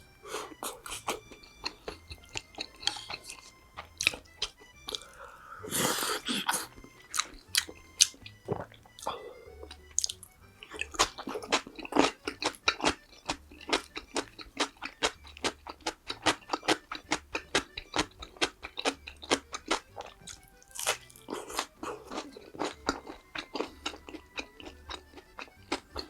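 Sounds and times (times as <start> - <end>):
crunching and chewing crispy food: 0.0 - 26.0.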